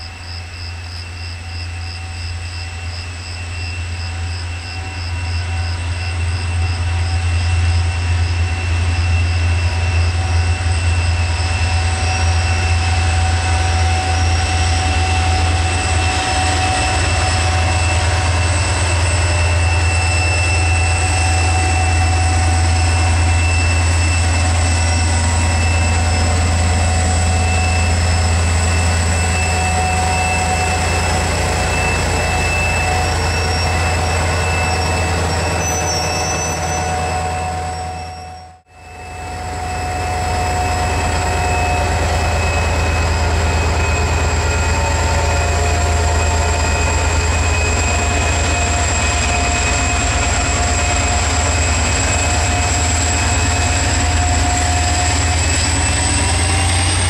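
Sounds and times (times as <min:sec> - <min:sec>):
locomotive engine low hum: 0:00.0 - 0:57.0
high whines: 0:06.4 - 0:57.0.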